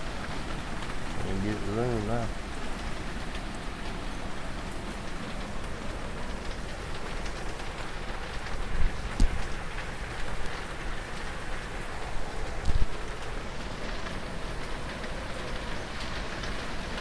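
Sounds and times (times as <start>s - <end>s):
rain and wind rushing: 0.0s - 17.0s.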